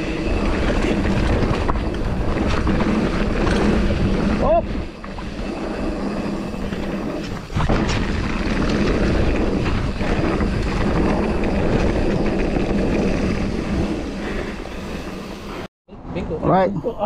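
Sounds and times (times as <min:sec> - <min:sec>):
wind buffeting microphone: 0:00.0 - 0:15.6
tyres rumbling on dirt: 0:00.0 - 0:15.7.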